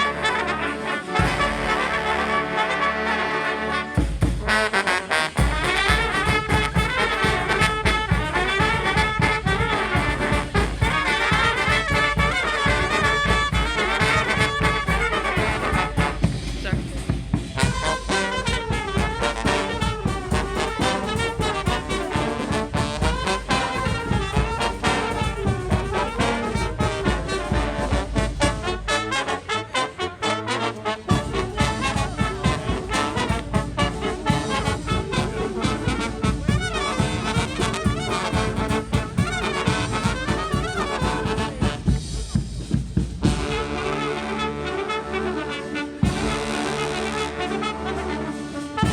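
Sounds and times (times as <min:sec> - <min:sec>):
marching band brass tune: 0:00.0 - 0:48.9.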